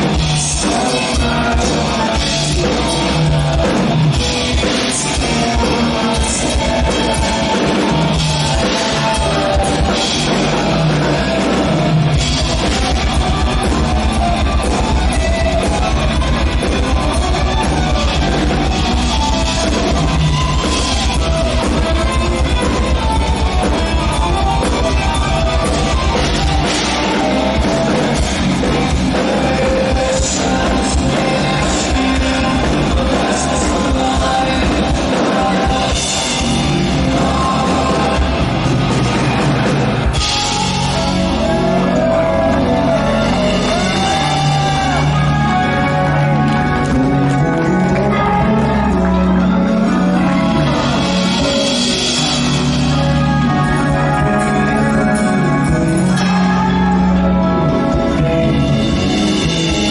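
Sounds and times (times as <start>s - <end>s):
distorted electric guitars: 0.0s - 59.9s
fast drum kit: 0.0s - 59.9s
metal band playing loudly: 0.0s - 59.9s.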